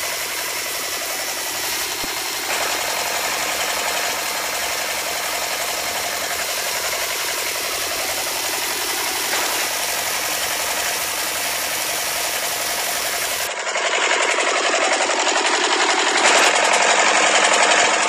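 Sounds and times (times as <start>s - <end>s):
small model engine rattling: 0.0s - 18.0s.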